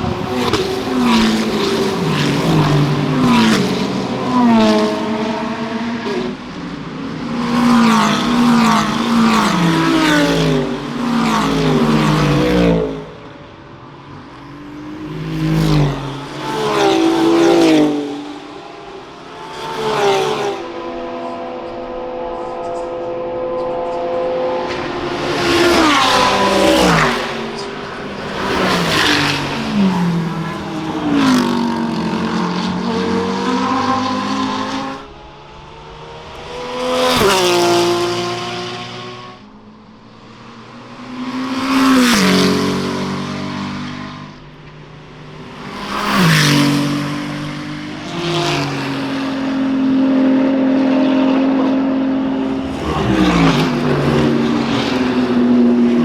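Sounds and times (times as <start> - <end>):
race cars passing at speed: 0.0 - 56.0.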